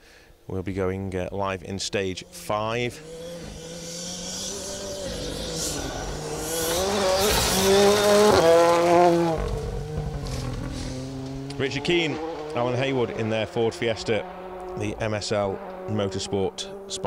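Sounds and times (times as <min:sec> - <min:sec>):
rally car engine passing: 0:02.1 - 0:17.0.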